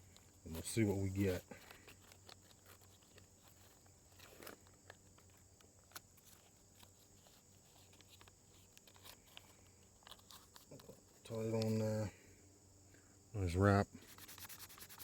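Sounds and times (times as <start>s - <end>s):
sandpaper rustling and ticking: 0.0s - 12.1s, 14.0s - 15.0s.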